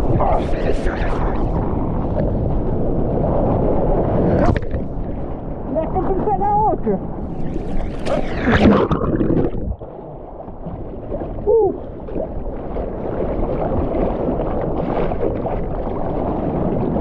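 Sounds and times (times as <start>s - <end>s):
churning water: 0.0s - 17.0s
sea water splashing: 0.0s - 17.0s
underwater gurgling: 0.0s - 17.0s.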